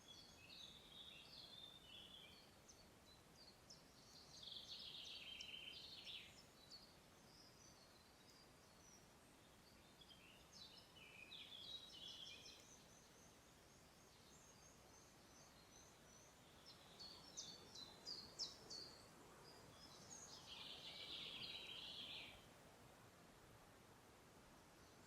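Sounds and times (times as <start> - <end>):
songbirds singing: 0.0 - 23.0, 23.6 - 25.0
background hiss: 0.0 - 25.0.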